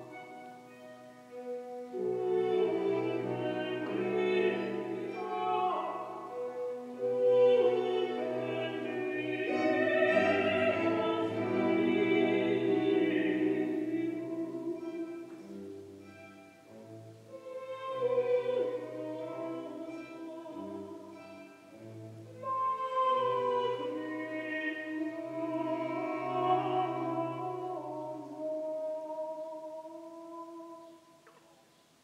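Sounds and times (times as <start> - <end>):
operatic singing with orchestra: 0.0 - 16.2, 16.9 - 31.2.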